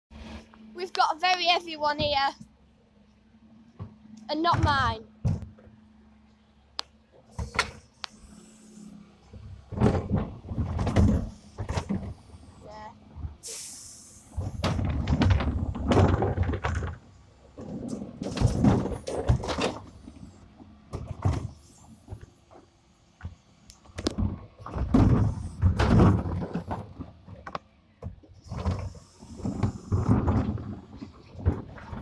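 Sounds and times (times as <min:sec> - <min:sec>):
bin lift rumbling and thudding: 0:03.8 - 0:06.0, 0:07.2 - 0:22.2, 0:23.3 - 0:32.0.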